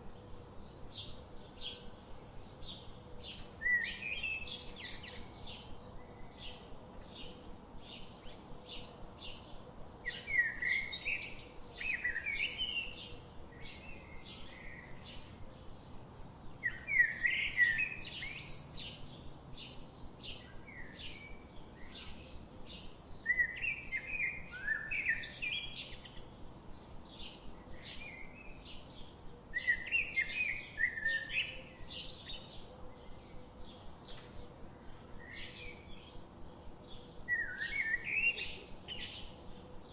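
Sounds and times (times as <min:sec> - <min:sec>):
bird twittering song: 0:00.0 - 0:39.9
faint background hiss: 0:00.0 - 0:39.9.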